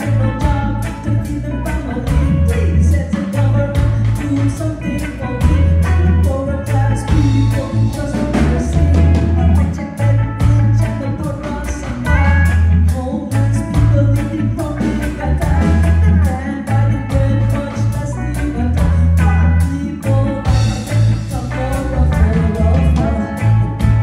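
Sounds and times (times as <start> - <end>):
electric guitar: 0.0 - 24.0
heavy bass line: 0.0 - 24.0
steady drum beat: 2.1 - 24.0.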